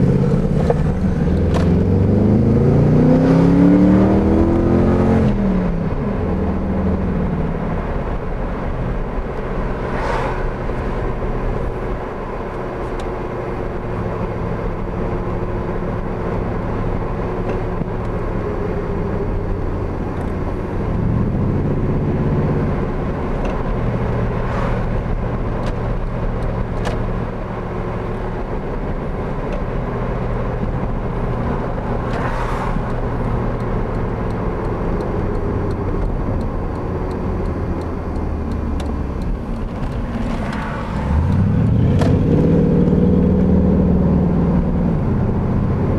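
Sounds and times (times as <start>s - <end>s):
car exhaust droning while cruising: 0.0s - 45.9s.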